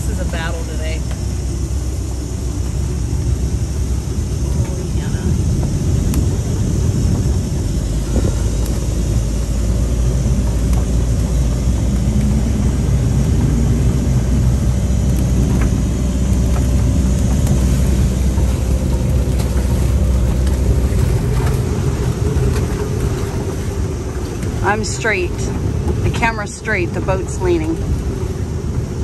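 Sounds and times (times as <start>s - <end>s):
steady low drone: 0.0s - 29.0s
strong wind buffeting microphone: 0.0s - 29.0s.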